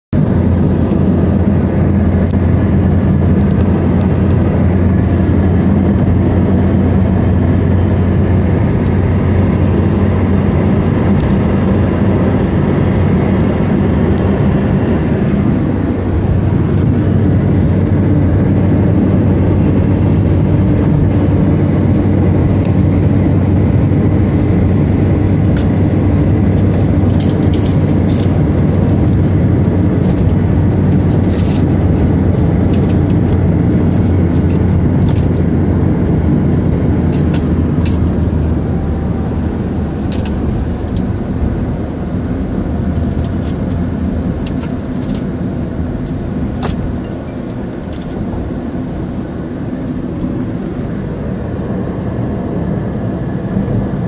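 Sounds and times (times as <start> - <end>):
car engine and tyre drone: 0.1 - 54.0.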